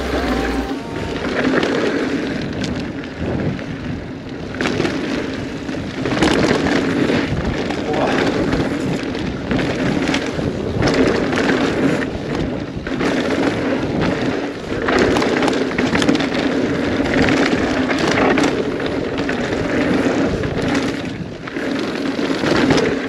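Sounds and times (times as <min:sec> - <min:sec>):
bike rattling and knocking: 0:00.0 - 0:23.0
bike tyre noise on dirt: 0:00.0 - 0:23.0
wind rushing on microphone: 0:00.0 - 0:23.0.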